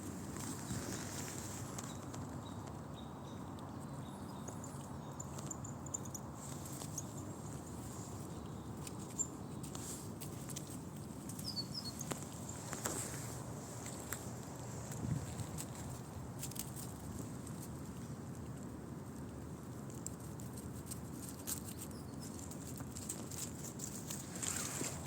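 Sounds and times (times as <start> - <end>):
squirrel rustling in leaves: 0.0 - 3.4, 6.2 - 25.0.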